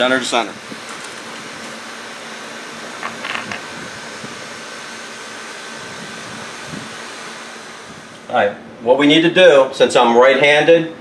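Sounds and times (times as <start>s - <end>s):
air conditioner fan hum: 0.0s - 11.0s
faint steady whine: 0.0s - 11.0s.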